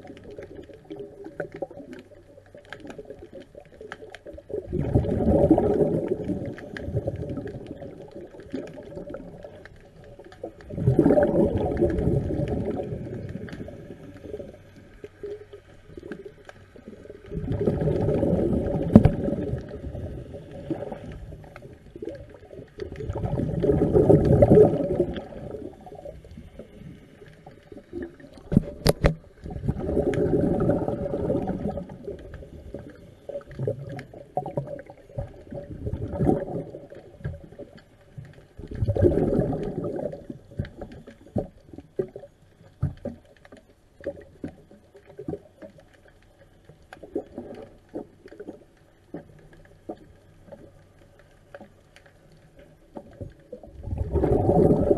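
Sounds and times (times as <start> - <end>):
exhaled bubbles rumbling underwater: 0.0 - 54.9.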